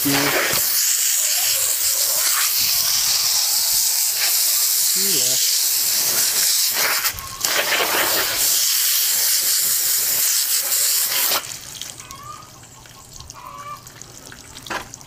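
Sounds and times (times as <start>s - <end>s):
hose nozzle spraying water: 0.0s - 12.1s.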